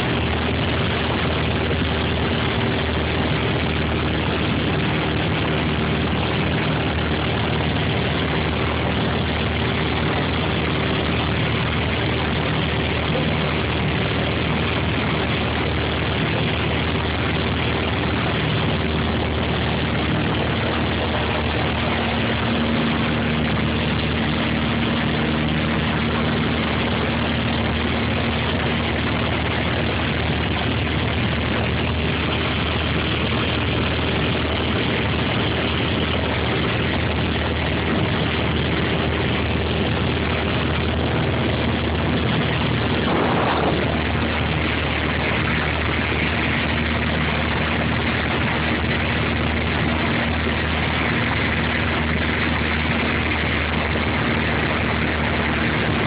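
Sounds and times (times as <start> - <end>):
light aircraft engine in cabin: 0.0 - 56.0
rushing air noise: 0.0 - 56.0.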